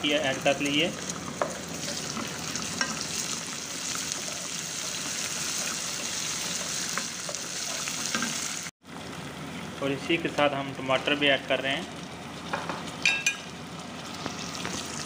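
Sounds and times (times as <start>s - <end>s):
onions sizzling in hot oil: 0.0s - 9.8s, 10.9s - 15.0s.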